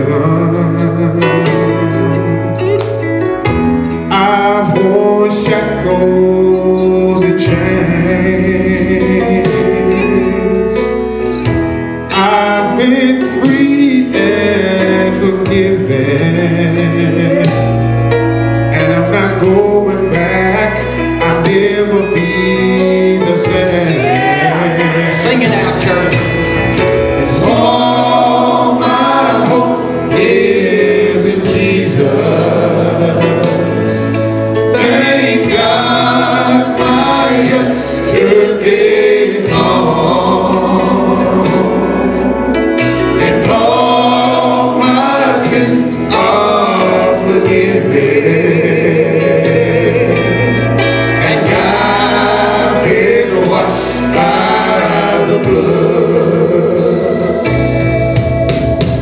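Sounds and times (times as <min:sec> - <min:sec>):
male vocal group singing gospel: 0:00.0 - 0:58.2
sustained bass notes: 0:00.0 - 0:59.0.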